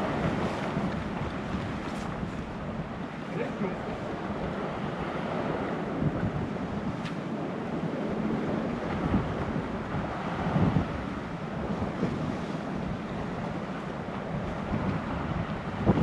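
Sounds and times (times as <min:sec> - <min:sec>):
surf washing on rocky shore: 0:00.0 - 0:16.0
wind buffeting microphone: 0:00.0 - 0:16.0.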